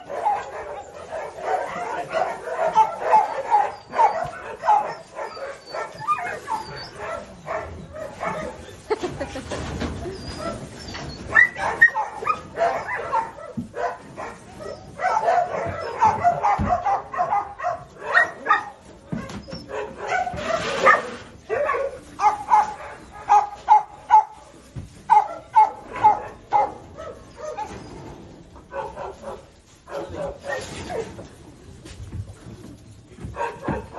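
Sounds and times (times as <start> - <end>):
puppies yipping and barking: 0.0 - 31.2.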